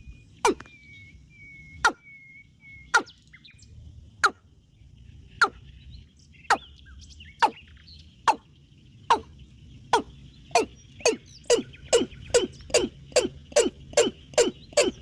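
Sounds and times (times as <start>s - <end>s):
faint insect-like drone: 0.0s - 15.0s.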